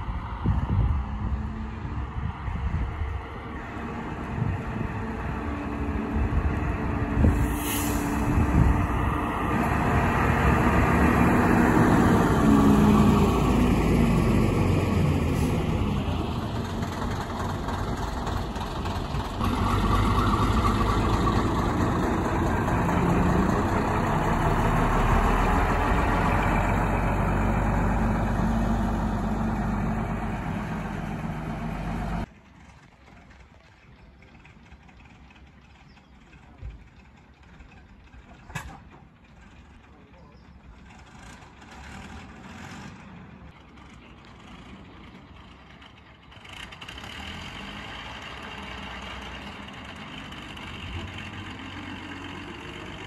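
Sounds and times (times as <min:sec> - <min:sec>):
bus diesel engine passing: 0:00.0 - 0:53.0.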